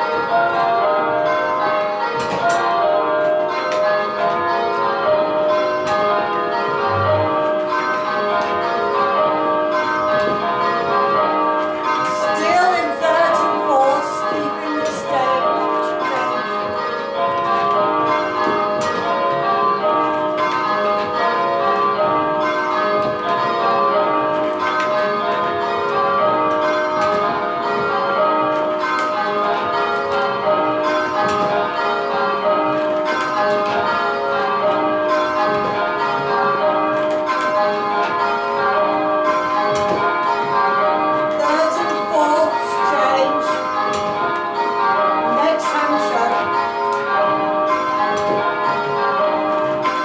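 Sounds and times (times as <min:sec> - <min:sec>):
church bells change ringing: 0:00.0 - 0:50.0.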